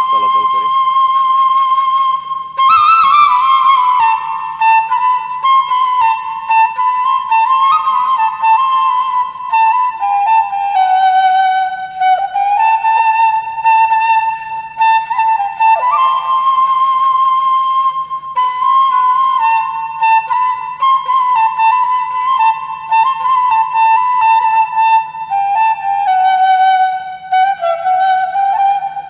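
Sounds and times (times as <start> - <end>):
solo flute melody: 0.0 - 29.0.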